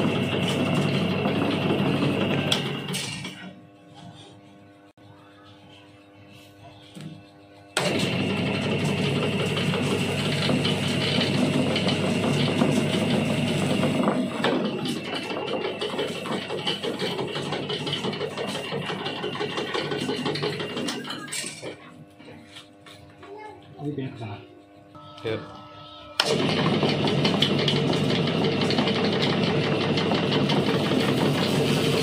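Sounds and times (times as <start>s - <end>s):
electric motor humming: 0.0s - 32.0s.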